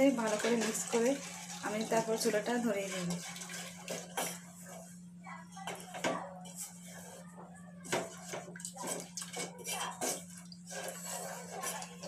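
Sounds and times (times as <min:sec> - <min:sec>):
spatula stirring thick batter: 0:00.0 - 0:12.0.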